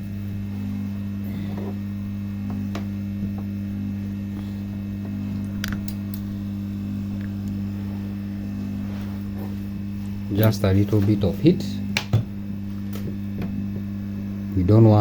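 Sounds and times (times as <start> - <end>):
blower electrical hum: 0.0 - 15.0.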